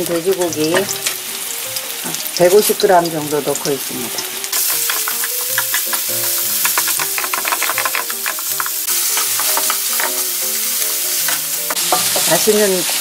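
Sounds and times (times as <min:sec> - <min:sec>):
light background music: 0:00.0 - 0:13.0
meat sizzling in frying pan: 0:00.0 - 0:13.0.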